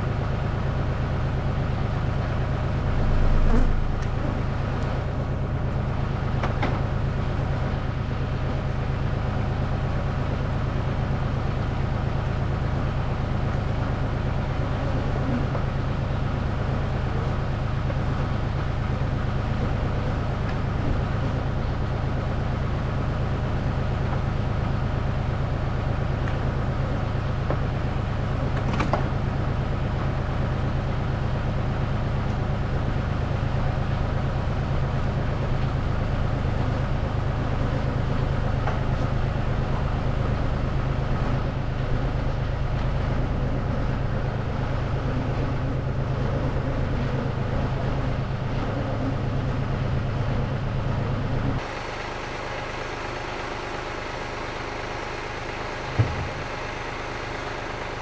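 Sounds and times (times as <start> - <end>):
motor running low drone: 0.0 - 58.0.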